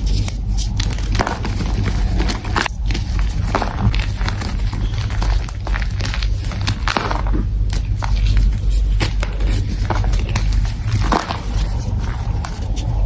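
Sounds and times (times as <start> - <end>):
chalk being crushed: 0.0 - 13.0
low rumble: 0.0 - 13.0.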